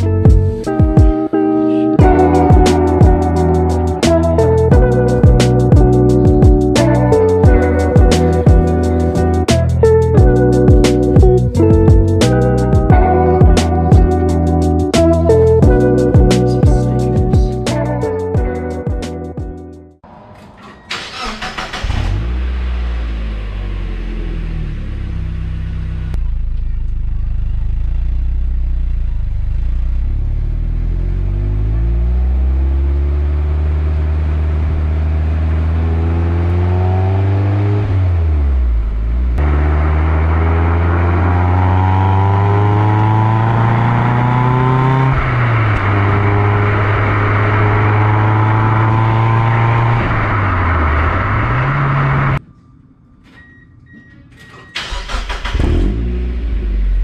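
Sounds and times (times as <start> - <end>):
car engine accelerating: 2.0 - 19.4, 20.0 - 52.4, 54.8 - 57.0.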